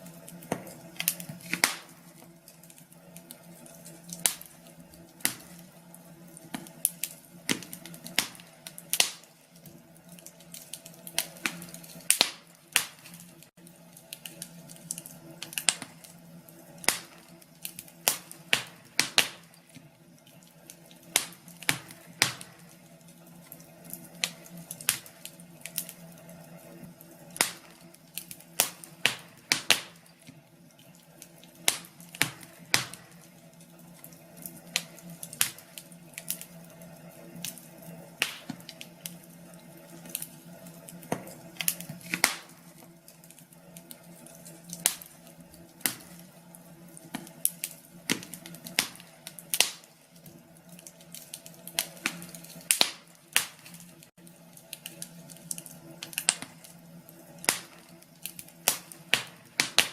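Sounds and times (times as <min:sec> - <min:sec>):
wood fire crackling in a fireplace: 0:00.0 - 0:59.9.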